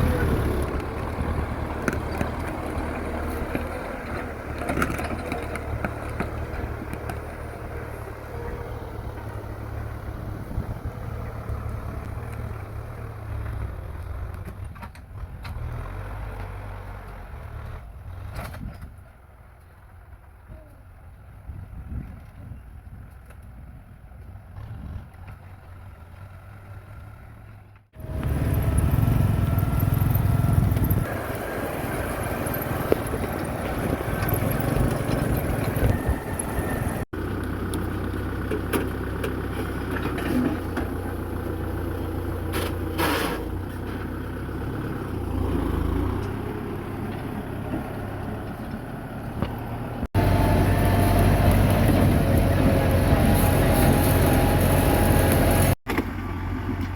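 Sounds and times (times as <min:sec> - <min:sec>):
tractor diesel engine running: 0:00.0 - 0:18.1, 0:21.1 - 0:56.9.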